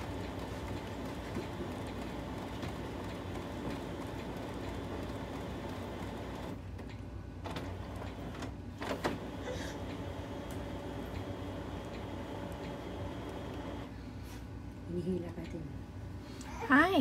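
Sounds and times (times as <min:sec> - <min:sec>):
printer whirring: 0:00.0 - 0:14.0.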